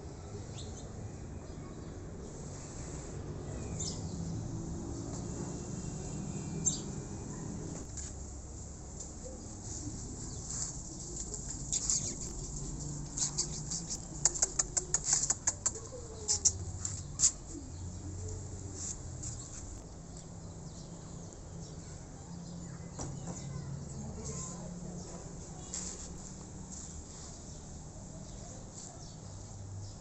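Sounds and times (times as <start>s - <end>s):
faint outdoor background: 0.0s - 30.0s.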